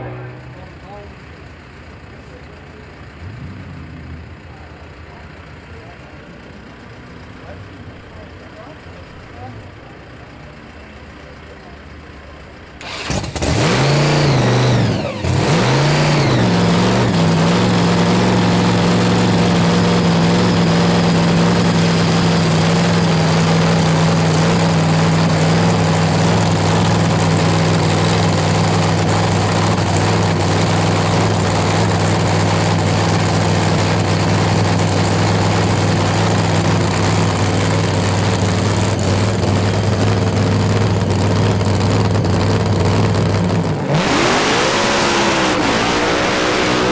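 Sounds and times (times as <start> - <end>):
loud engine firing up and idling: 0.0 - 46.9.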